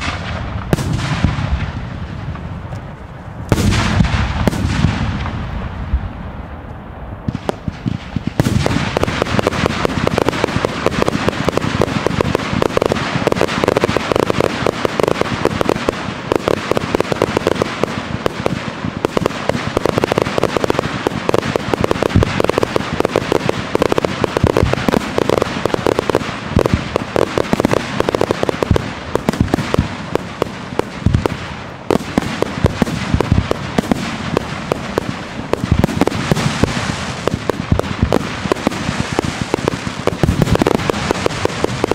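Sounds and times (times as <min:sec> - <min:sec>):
deep fireworks booms: 0:00.0 - 0:41.9
fireworks crackling and popping: 0:00.0 - 0:41.9.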